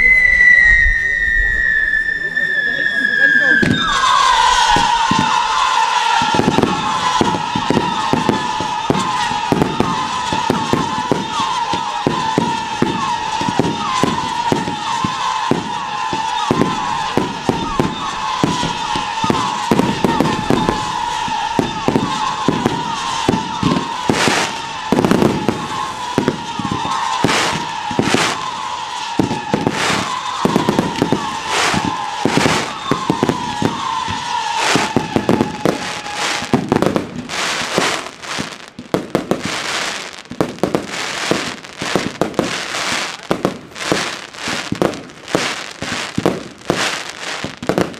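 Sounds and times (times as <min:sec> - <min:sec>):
fireworks whistling: 0:00.0 - 0:47.9
fireworks shots and bangs: 0:03.2 - 0:47.9.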